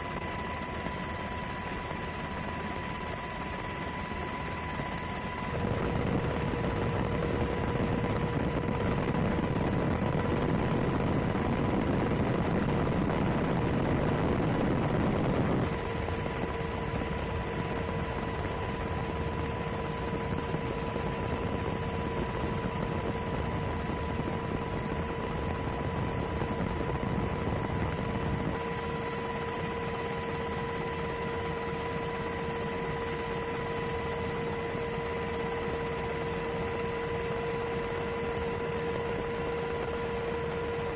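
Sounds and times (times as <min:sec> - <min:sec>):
aircraft engine noise: 0:00.0 - 0:40.9
constant hum: 0:00.0 - 0:40.9.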